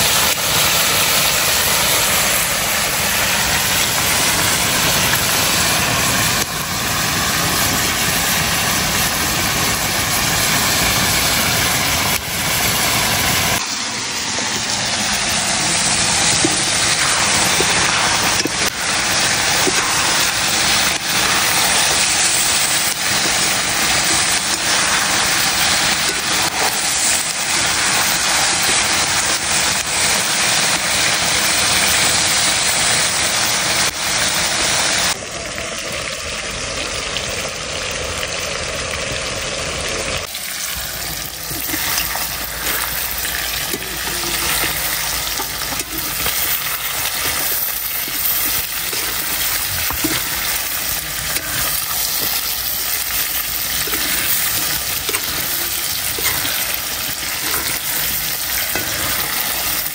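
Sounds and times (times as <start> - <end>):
meat sizzling in a pan: 0.0 - 35.2, 35.8 - 59.9.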